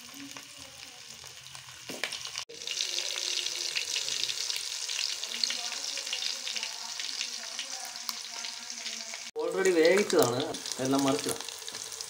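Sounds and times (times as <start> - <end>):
crackling oil spatter: 0.0 - 2.8, 3.4 - 12.0
food sizzling in ghee: 0.0 - 12.0.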